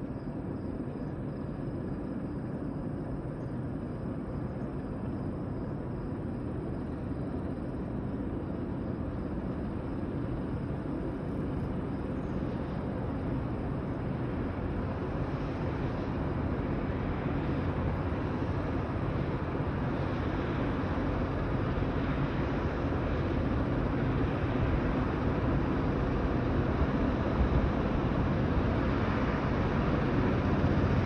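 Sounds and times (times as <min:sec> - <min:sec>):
distant diesel locomotive rumble: 0:00.0 - 0:31.0.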